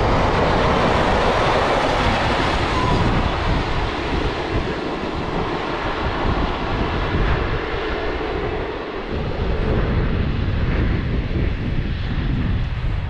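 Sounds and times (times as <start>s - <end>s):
freight train rolling roar: 0.0s - 13.0s
wind buffeting microphone: 0.0s - 13.0s.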